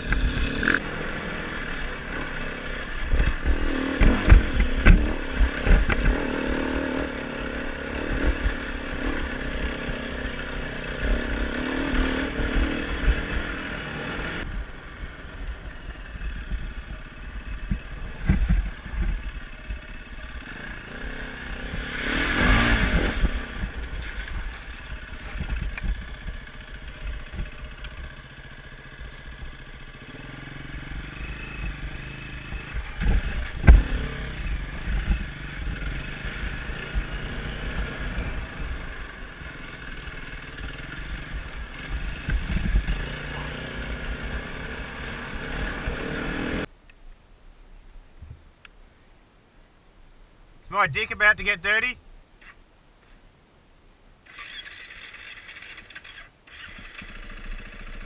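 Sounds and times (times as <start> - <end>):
dirt bike engine revving: 0.0 - 14.5, 15.4 - 46.7, 54.2 - 58.0.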